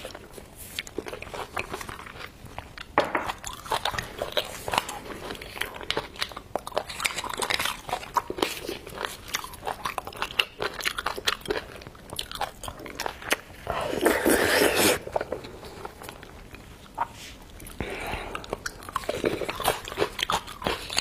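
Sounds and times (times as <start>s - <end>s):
chewing mouth sounds: 0.0s - 21.0s.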